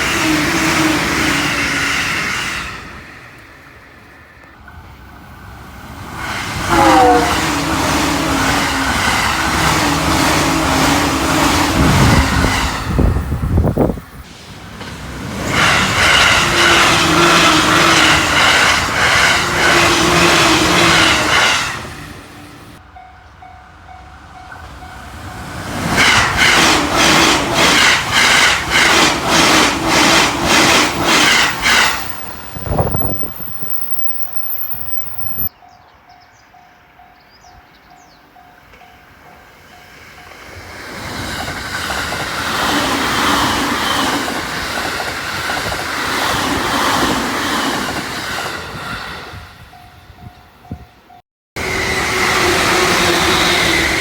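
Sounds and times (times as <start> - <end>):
train rushing past: 0.0 - 35.5, 38.6 - 54.0.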